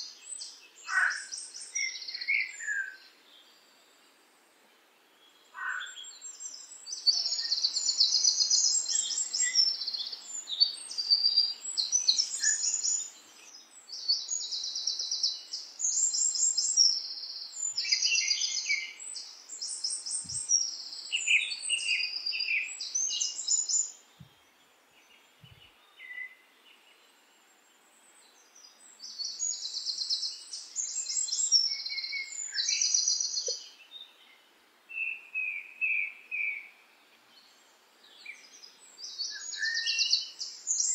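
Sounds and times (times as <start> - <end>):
songbirds singing trills: 0.0 - 4.1, 5.0 - 40.9.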